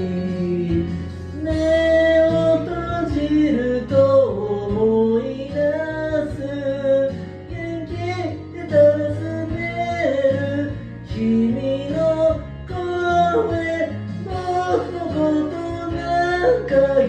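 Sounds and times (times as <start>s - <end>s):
pop-rock band music: 0.0s - 17.0s.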